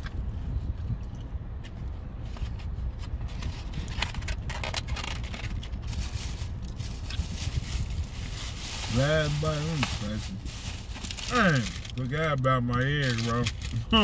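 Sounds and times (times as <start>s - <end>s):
low rumble: 0.0s - 12.4s
crackling and rustling: 1.6s - 14.0s.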